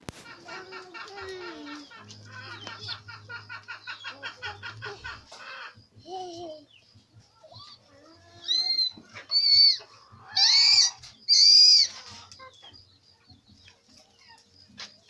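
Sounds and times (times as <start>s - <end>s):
chickens squawking: 0.0s - 15.0s
faint chirps: 0.3s - 15.0s.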